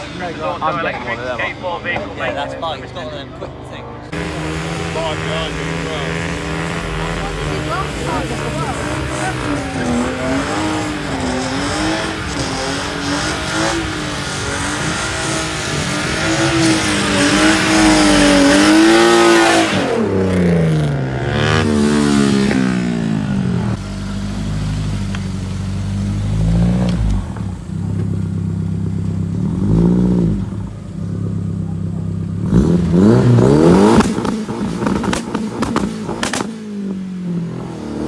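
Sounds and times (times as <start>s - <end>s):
car engine running lower: 0.0s - 38.0s
car engine revving high: 4.1s - 27.7s, 29.2s - 38.0s.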